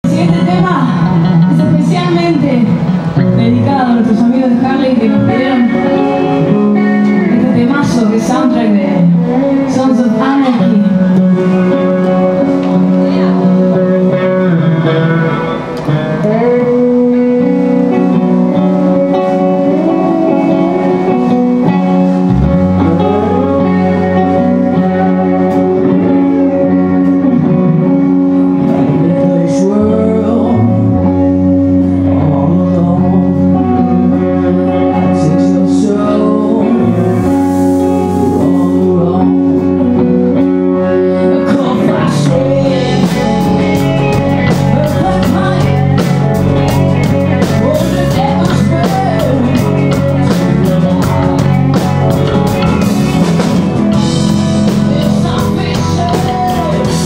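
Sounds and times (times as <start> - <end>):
bass guitar line: 0.0 - 57.0
electric guitars playing: 0.0 - 57.0.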